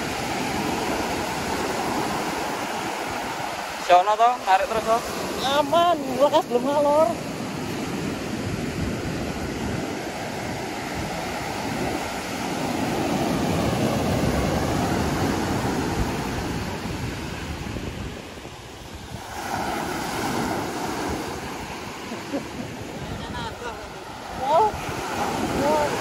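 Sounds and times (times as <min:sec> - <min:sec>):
wind on microphone: 0:00.0 - 0:03.8, 0:04.8 - 0:26.0
ocean surf breaking on beach: 0:00.0 - 0:26.0.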